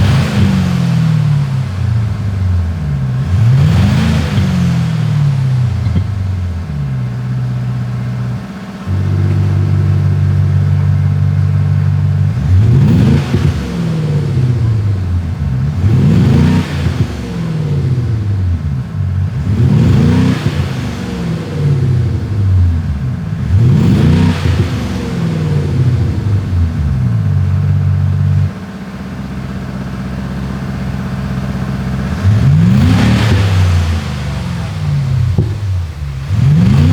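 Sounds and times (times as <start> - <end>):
synthesized engine sound revving: 0.0 - 36.9.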